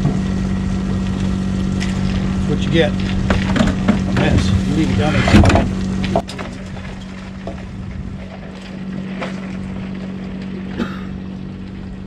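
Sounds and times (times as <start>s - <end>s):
wind on microphone: 0.0s - 10.0s
boat motor humming: 0.0s - 12.0s.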